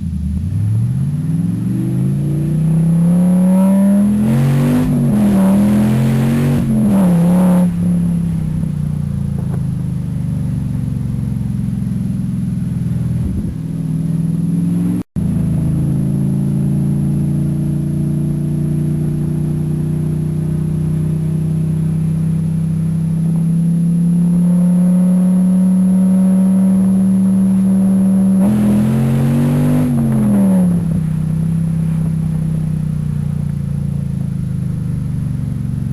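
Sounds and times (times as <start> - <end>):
car engine revving and idling: 0.0 - 35.9.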